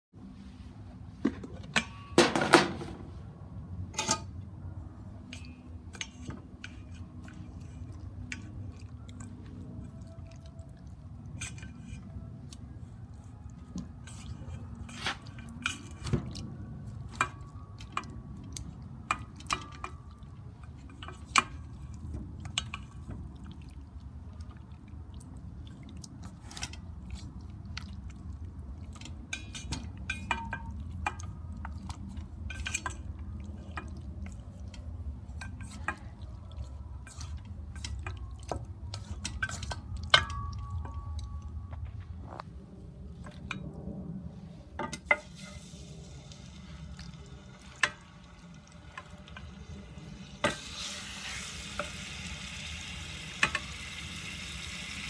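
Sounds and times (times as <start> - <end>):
low hum: 0.1 - 52.4
wet meat sounds: 4.6 - 41.7, 45.4 - 55.0.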